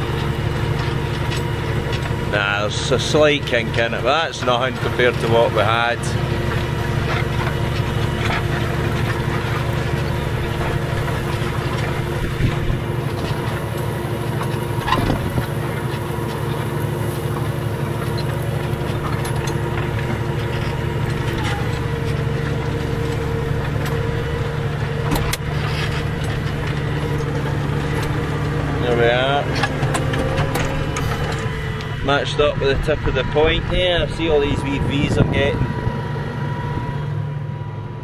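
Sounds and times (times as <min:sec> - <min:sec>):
diesel tractor engine running: 0:00.0 - 0:38.0.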